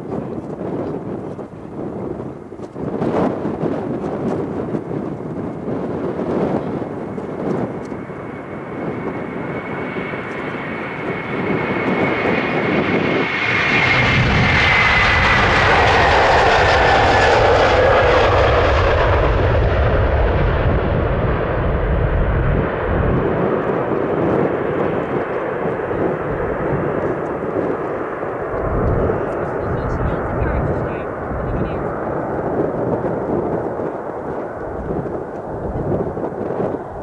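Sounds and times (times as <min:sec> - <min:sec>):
jet airliner taking off: 0:00.0 - 0:37.0.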